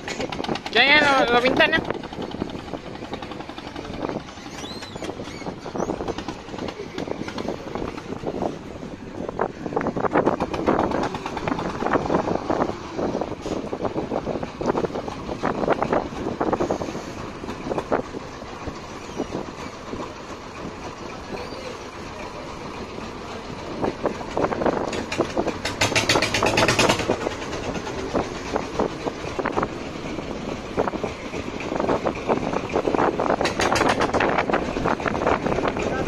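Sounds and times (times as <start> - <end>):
boat engine chugging: 0.0 - 36.0.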